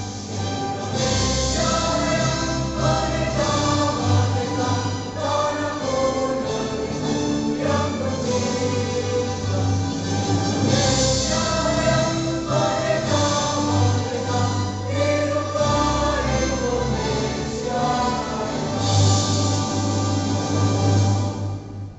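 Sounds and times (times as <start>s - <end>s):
choir singing in harmony: 0.0s - 21.9s.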